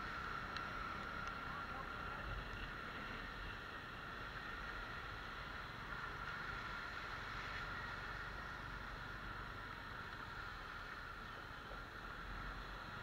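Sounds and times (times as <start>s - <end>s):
high motorcycle hum: 0.0s - 13.0s
road noise: 0.0s - 13.0s.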